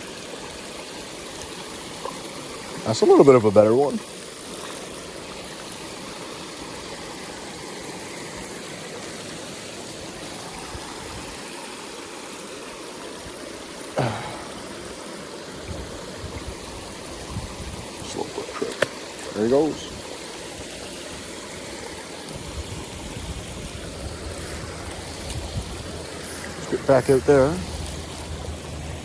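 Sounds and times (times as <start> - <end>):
stream water flowing: 0.0 - 29.0.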